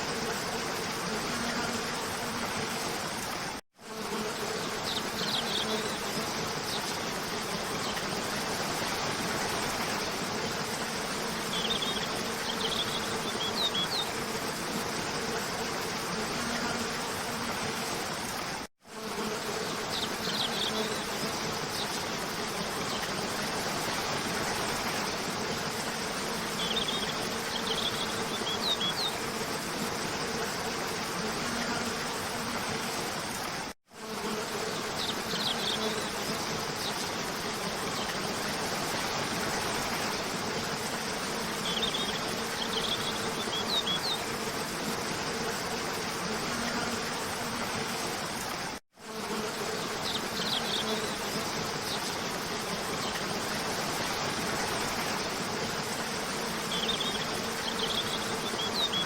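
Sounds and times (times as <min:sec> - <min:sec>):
high steady hiss: 0:00.0 - 0:59.0.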